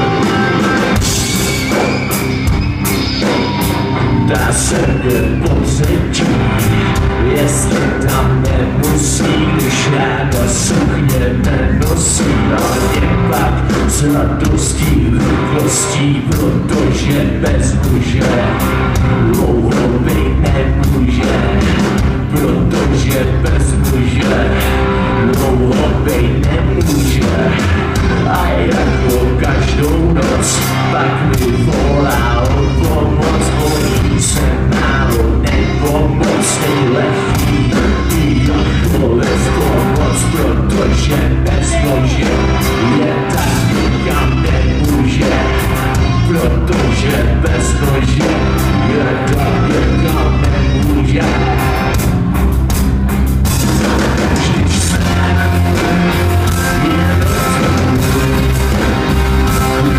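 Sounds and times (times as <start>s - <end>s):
live rock band playing: 0.0s - 59.9s
man singing: 3.2s - 52.2s, 54.0s - 59.9s.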